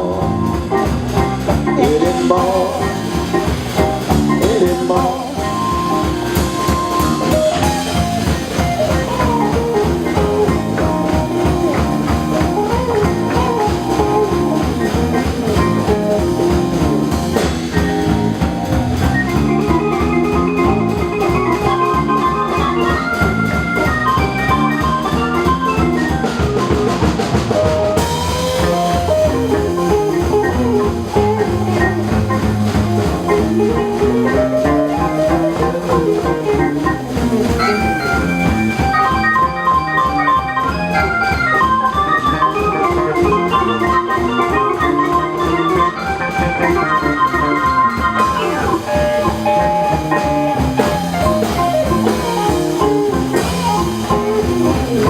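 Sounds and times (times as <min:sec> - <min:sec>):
bass and chords: 0:00.0 - 0:55.0
drum kit steady beat: 0:00.0 - 0:55.0
lead instrument melody: 0:00.0 - 0:55.0.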